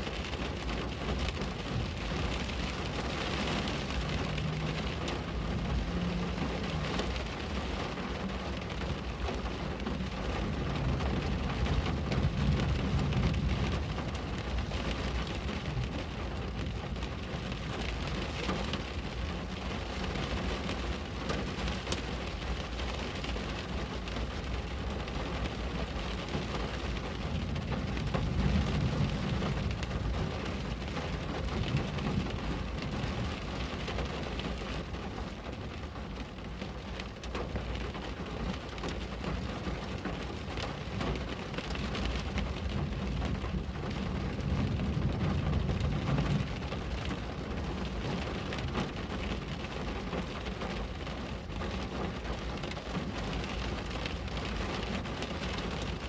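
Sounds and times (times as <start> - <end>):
rain pattering on a window: 0.0 - 56.0.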